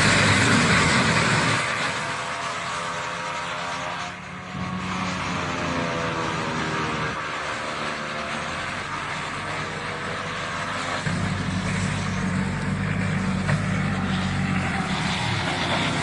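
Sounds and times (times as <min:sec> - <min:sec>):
deep loud engine rumble: 0:00.0 - 0:03.2, 0:03.8 - 0:16.0
farm machine engine running: 0:00.0 - 0:16.0.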